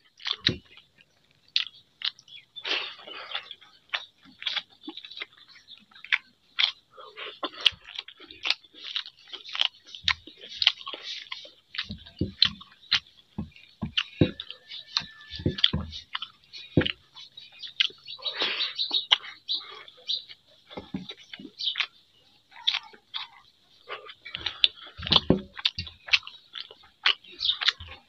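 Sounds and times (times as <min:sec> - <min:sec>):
person chewing with wet smacks: 0:00.0 - 0:28.0.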